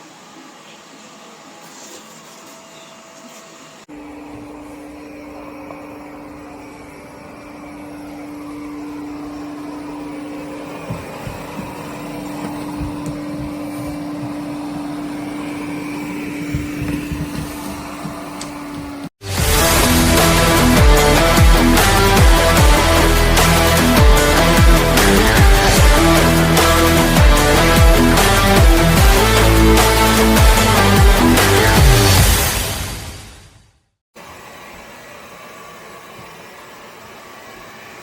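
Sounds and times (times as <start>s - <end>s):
robot vacuum running: 0.0s - 32.2s.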